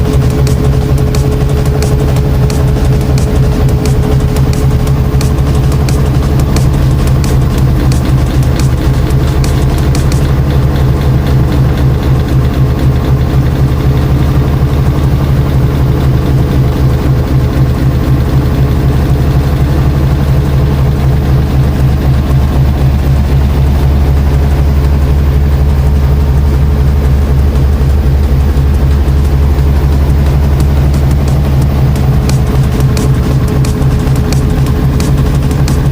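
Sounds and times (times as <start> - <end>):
washing machine motor humming: 0.0 - 35.9.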